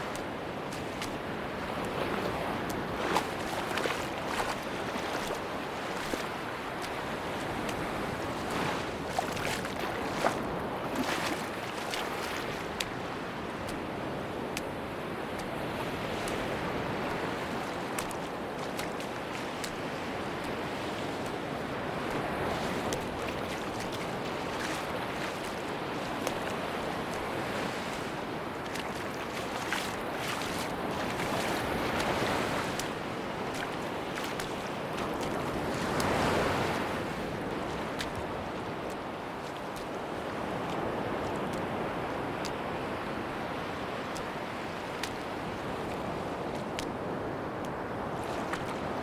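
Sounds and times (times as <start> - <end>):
sea waves washing on beach: 0.0 - 49.0.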